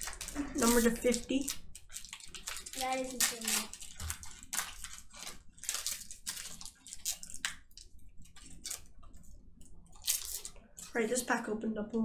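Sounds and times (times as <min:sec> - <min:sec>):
wrapper rustling and crackling: 0:00.0 - 0:11.3.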